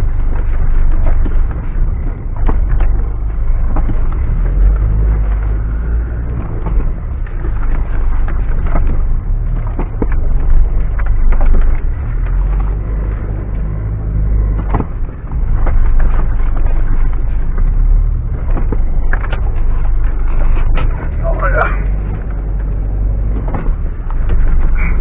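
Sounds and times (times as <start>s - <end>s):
car engine rumble: 0.0s - 25.0s
vehicle knocks and clatters: 0.0s - 25.0s.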